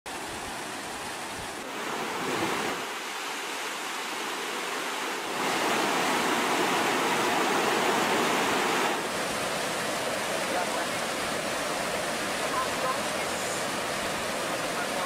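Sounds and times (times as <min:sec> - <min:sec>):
river floodwater rushing: 0:00.1 - 0:15.0.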